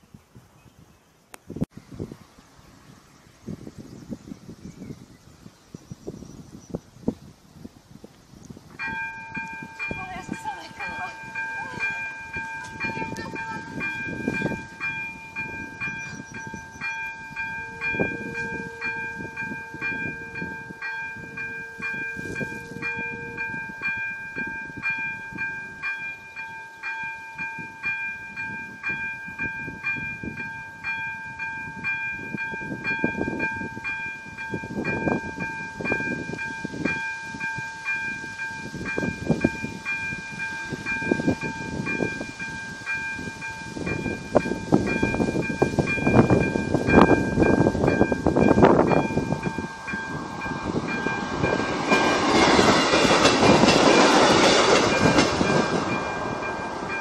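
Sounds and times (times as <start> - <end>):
wind rumbling on microphone: 0.0 - 57.0
electronic crossing bell ringing: 8.8 - 53.2, 54.0 - 57.0.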